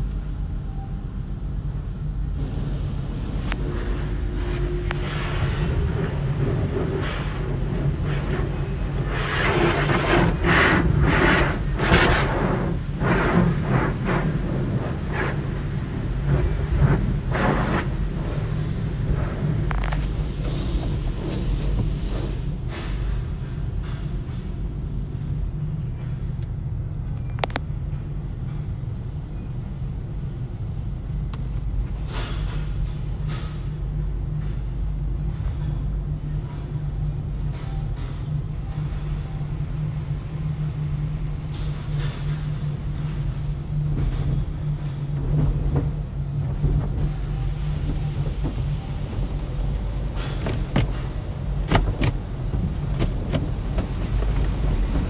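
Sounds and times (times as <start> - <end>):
car wash machinery rumble: 0.0 - 55.0.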